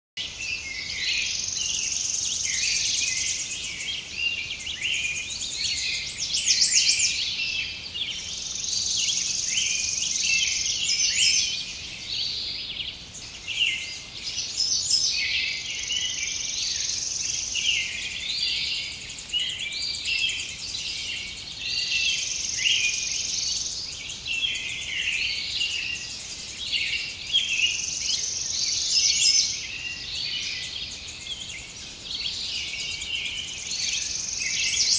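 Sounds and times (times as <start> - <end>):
small birds chirping: 0.2 - 34.9.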